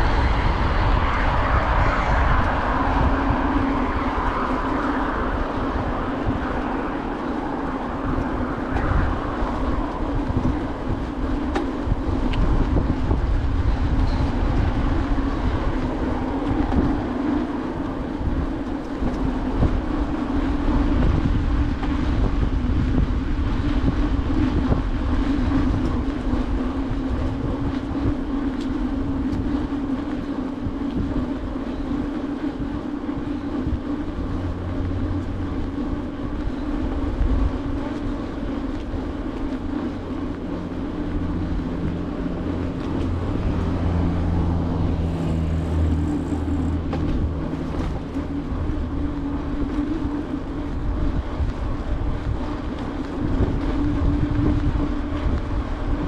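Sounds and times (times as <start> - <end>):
bicycle tyres rolling on paving: 0.0 - 56.0
wind buffeting microphone: 0.0 - 56.0.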